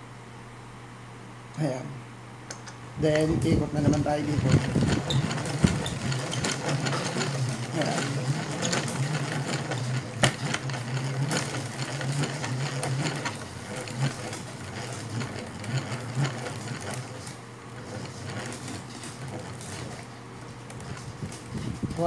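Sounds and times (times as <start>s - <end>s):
winding machine whirring: 3.0s - 22.0s.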